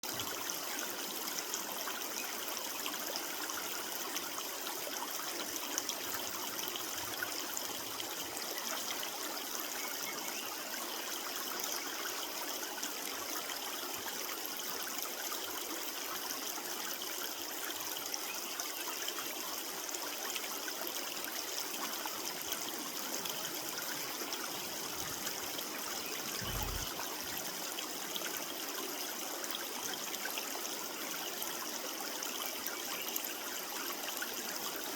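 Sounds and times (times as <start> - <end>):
creek water running over stones: 0.0 - 34.9.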